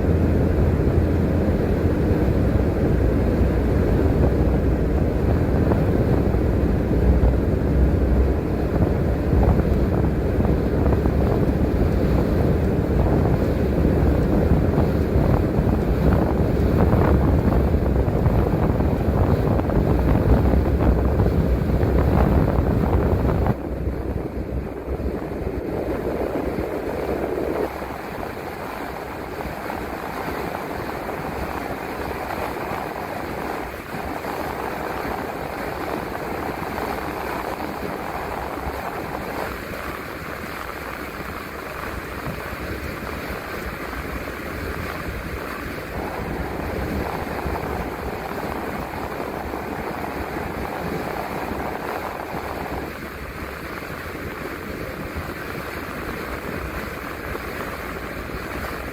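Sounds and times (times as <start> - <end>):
bus road and engine rumble: 0.0 - 58.3.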